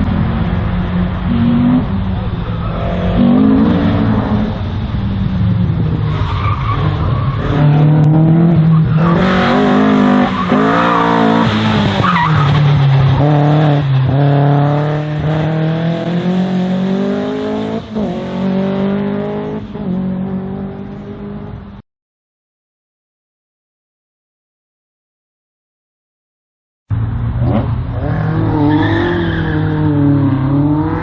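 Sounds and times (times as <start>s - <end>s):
race car engine revving: 0.0s - 21.7s, 26.9s - 31.0s.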